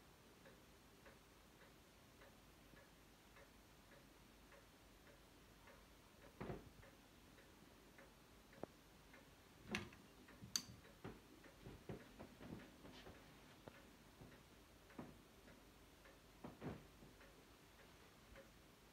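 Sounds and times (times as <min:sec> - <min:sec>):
clock ticking: 0:00.0 - 0:18.9.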